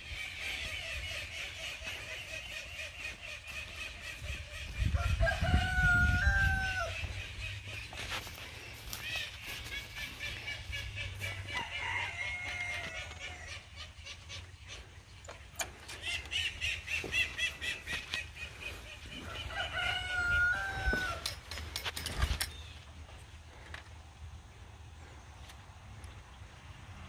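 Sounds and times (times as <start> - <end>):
fowl calling: 0.0 - 21.9.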